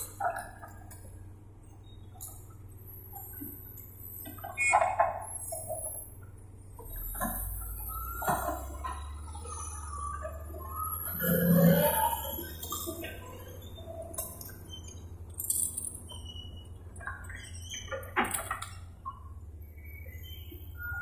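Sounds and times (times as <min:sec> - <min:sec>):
diesel machinery humming: 0:00.0 - 0:21.0.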